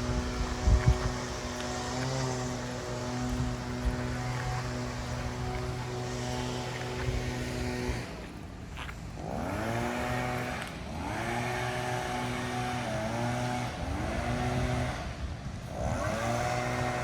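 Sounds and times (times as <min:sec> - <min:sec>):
engine revving: 0:00.0 - 0:08.2, 0:09.2 - 0:15.0, 0:15.8 - 0:17.0.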